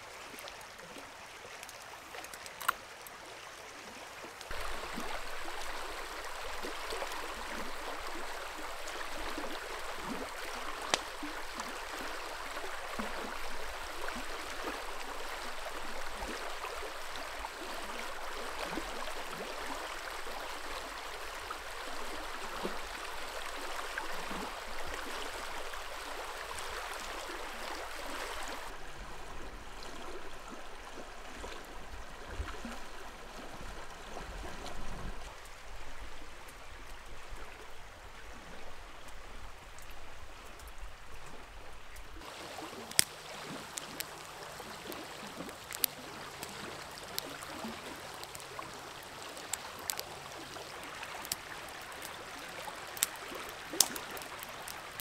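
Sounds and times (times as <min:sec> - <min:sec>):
creek water flowing: 0:00.0 - 0:55.0.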